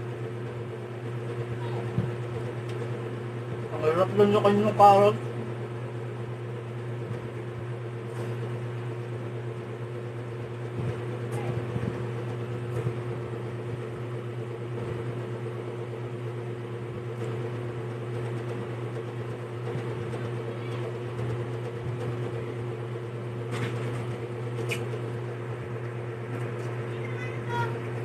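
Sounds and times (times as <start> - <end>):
appliance motor hum: 0.0 - 28.0.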